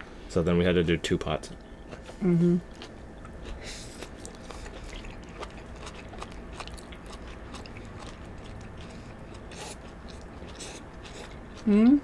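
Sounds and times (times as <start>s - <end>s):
chewing noodles: 1.9s - 12.0s.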